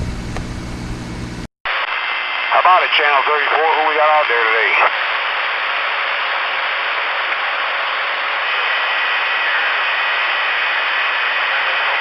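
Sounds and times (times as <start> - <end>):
radio static hiss: 1.7 - 12.0.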